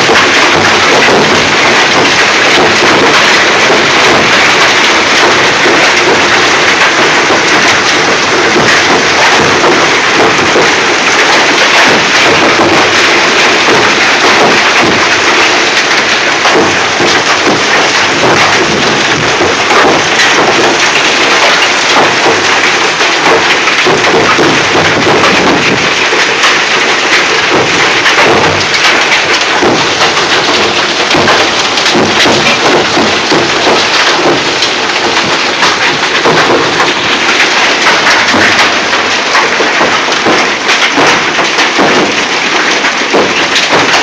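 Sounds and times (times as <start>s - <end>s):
hail and heavy rain pelting: 0.0s - 44.0s.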